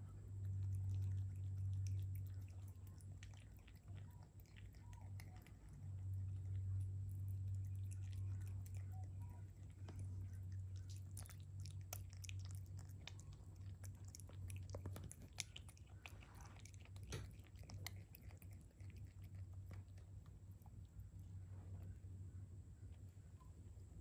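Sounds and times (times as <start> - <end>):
steady low hum: 0.0 - 24.0
animal chewing and licking: 0.2 - 21.3.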